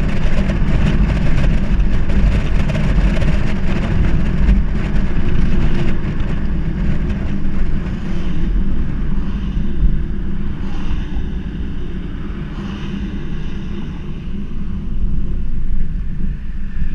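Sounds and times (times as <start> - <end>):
car engine and exhaust rumble: 0.0 - 16.9
road noise: 0.0 - 16.9
wind noise: 0.0 - 16.9.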